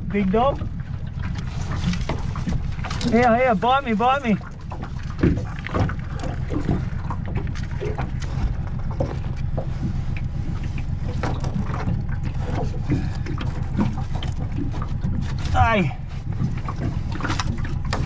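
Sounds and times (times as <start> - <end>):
crab knocks and scrapes: 0.4 - 18.0.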